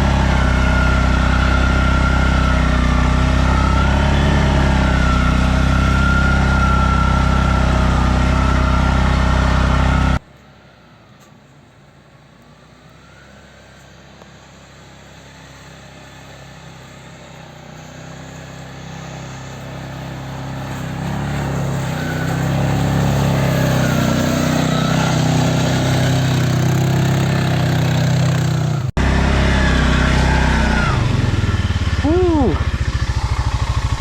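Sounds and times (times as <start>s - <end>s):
quad bike engine running: 0.0s - 10.5s, 11.2s - 34.0s.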